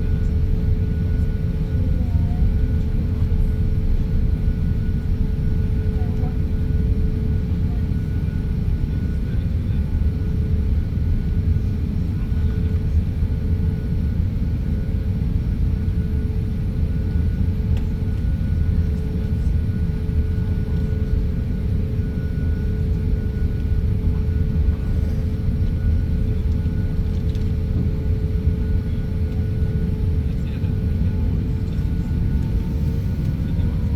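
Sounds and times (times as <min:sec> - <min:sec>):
constant hum: 0:00.0 - 0:33.9
low rumble of engines and airflow: 0:00.0 - 0:33.9.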